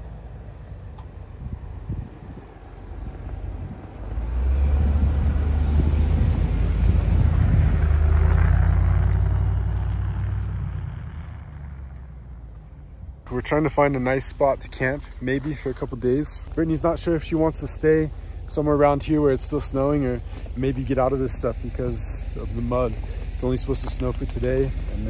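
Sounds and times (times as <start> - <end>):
truck passing by: 0.0 - 25.0.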